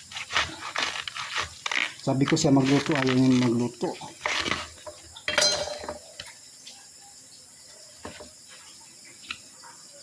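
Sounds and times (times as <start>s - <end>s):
kitchen background noise: 0.0s - 10.0s.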